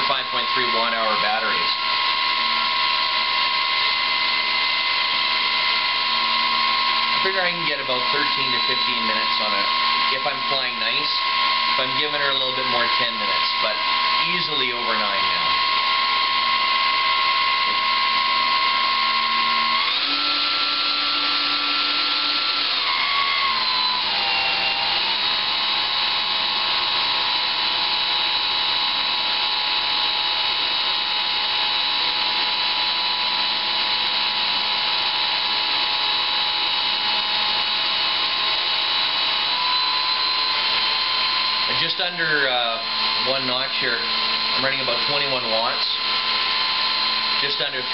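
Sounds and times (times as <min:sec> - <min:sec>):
electric motor propeller whine: 0:00.0 - 0:47.9.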